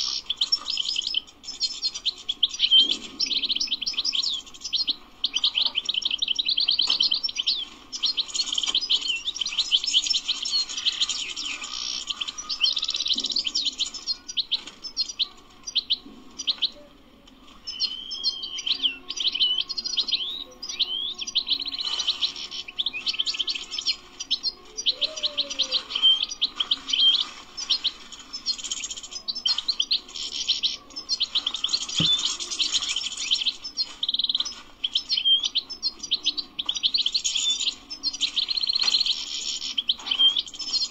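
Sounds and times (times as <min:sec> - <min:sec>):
finch twittering song: 0:00.0 - 0:16.8, 0:17.6 - 0:40.9.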